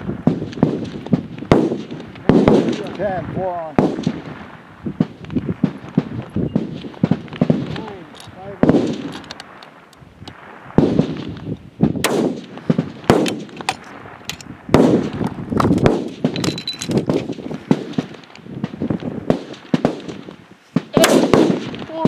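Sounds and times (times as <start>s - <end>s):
rifle shots with echo: 0.2s - 22.0s.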